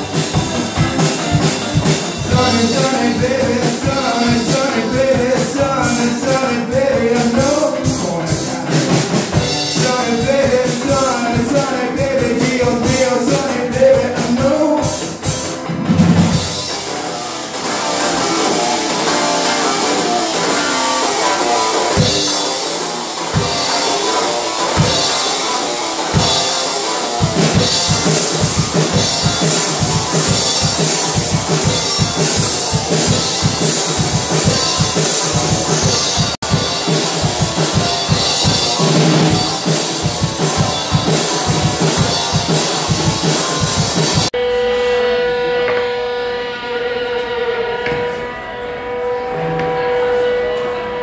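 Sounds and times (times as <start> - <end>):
drum kit fast beat: 0.0 - 44.3
electric guitar: 0.0 - 51.0.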